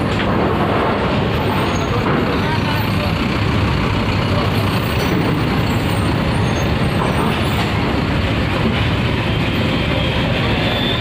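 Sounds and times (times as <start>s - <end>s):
rumble of heavy vehicles: 0.0s - 11.0s
bus diesel engine passing: 0.8s - 11.0s.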